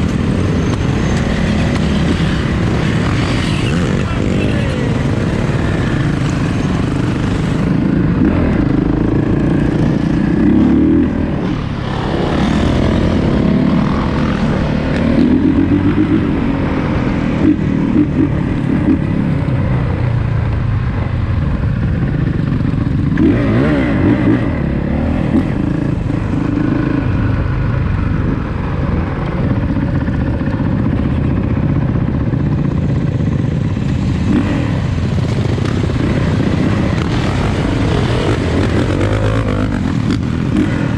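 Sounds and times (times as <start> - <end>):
motorcycle engine revving: 0.0 - 19.5, 22.2 - 27.9, 32.6 - 40.9.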